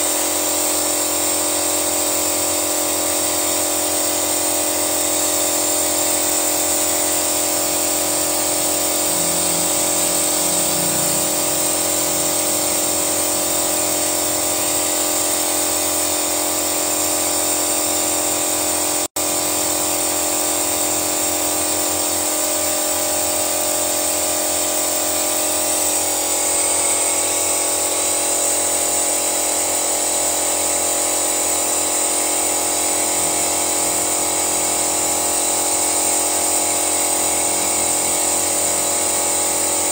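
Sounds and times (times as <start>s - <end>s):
compressed-air machine whine and hiss: 0.0s - 39.9s.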